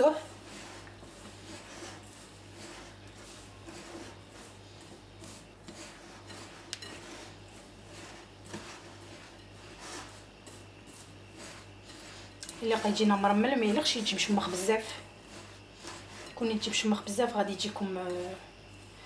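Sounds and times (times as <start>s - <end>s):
hands rubbing gritty grains: 0.0s - 16.7s, 17.4s - 19.0s.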